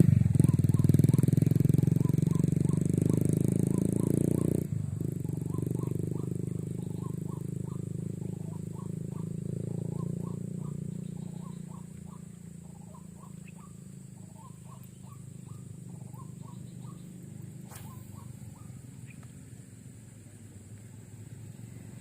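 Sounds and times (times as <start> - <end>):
engine hum: 0.0 - 22.0
short chirping animal calls: 0.2 - 4.7, 5.3 - 19.3.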